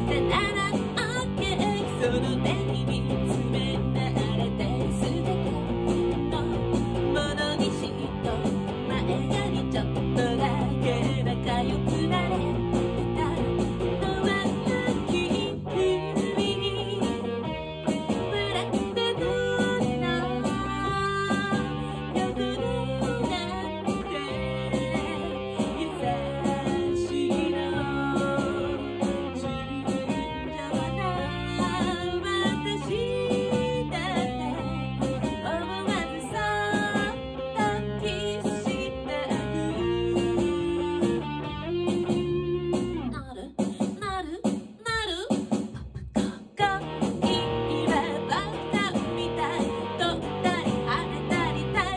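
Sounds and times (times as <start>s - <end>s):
distorted fuzz electric guitar: 0.0s - 43.2s, 46.6s - 51.9s
woman singing pop song: 0.0s - 51.9s.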